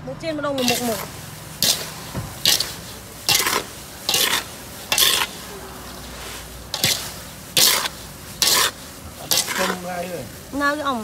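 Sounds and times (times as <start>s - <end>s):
oil frying sizzle: 0.5s - 11.0s
spatula scraping pan: 0.6s - 10.8s.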